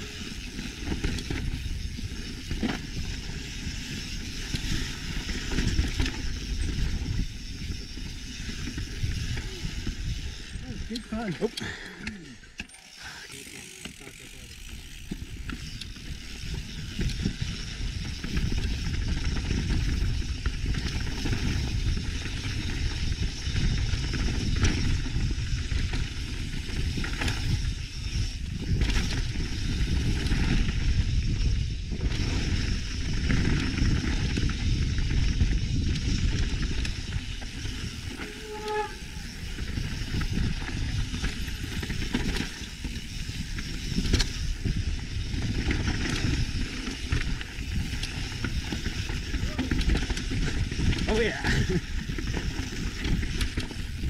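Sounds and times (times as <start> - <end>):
wind rushing over microphone: 0.0 - 11.3, 14.6 - 54.0
bike knocking and rattling: 0.0 - 54.0.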